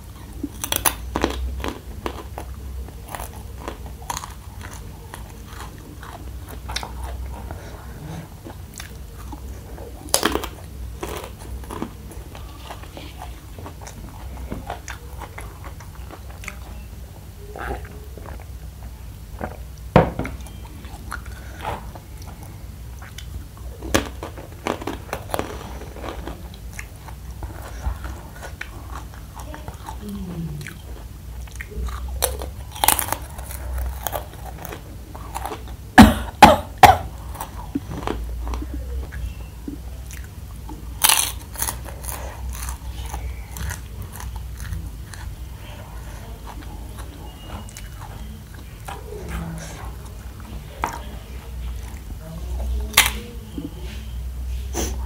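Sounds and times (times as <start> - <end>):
chewing and crunching snacks: 0.0 - 53.3
low steady hum: 0.0 - 55.0.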